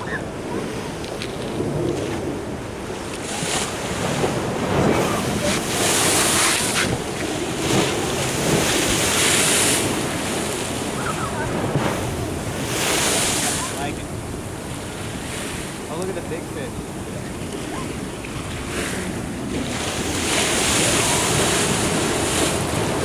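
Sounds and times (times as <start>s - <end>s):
ocean surf washing ashore: 0.0s - 23.0s
wind buffeting microphone: 0.0s - 23.0s.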